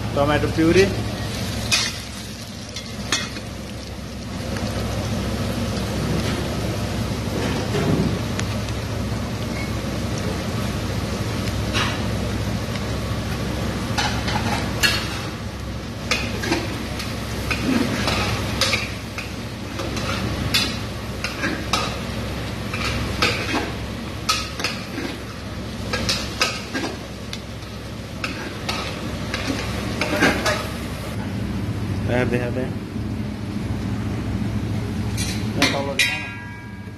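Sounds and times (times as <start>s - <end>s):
steady low hum: 0.0s - 36.9s
vegetables sizzling in fat: 0.6s - 31.1s.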